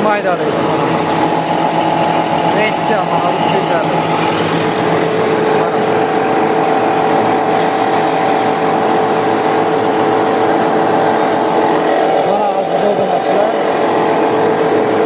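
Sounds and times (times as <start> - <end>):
machinery drone with whine: 0.0 - 15.0.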